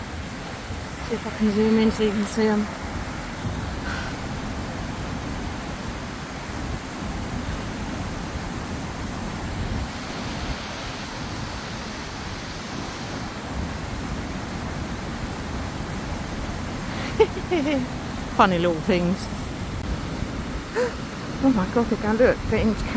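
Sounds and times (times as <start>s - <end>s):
river rushing: 0.0s - 22.9s
wind buffeting microphone: 0.0s - 22.9s.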